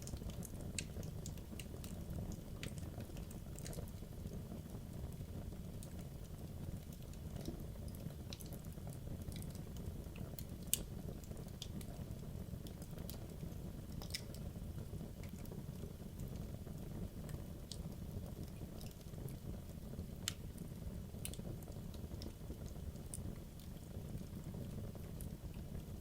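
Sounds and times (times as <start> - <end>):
fire crackles and pops: 0.0 - 26.0
low rumble of flame: 0.0 - 26.0.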